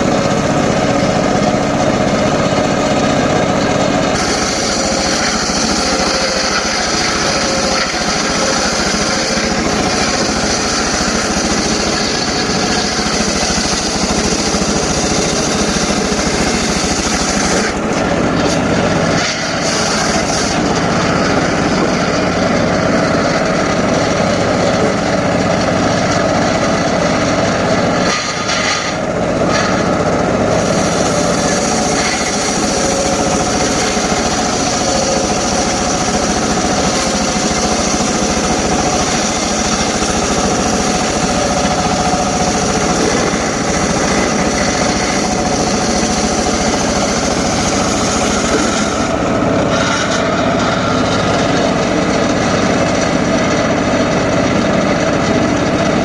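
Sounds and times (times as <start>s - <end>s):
circular saw cutting logs: 0.0s - 56.0s.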